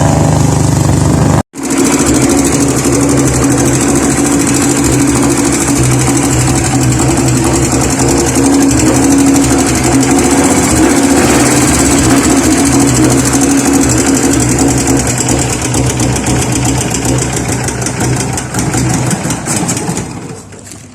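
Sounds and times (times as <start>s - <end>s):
small engine running steadily: 0.0s - 20.9s.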